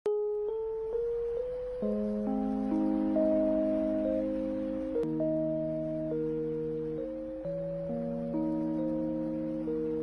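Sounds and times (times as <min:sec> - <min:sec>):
soft keyboard chord: 0:00.1 - 0:10.0.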